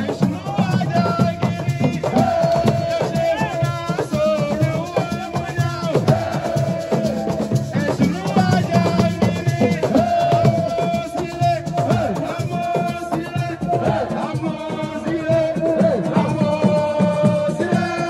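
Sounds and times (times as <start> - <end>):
drums and percussion: 0.0 - 18.0
singing voice: 0.0 - 18.0.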